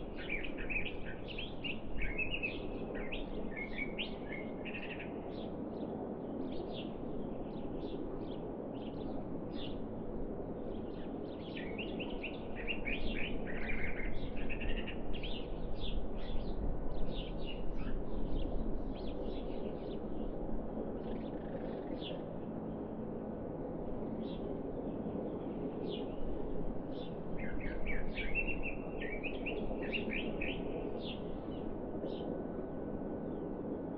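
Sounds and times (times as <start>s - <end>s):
songbirds chirping: 0.0s - 9.9s, 10.5s - 20.4s, 23.8s - 33.7s
low outdoor hum: 0.0s - 33.9s.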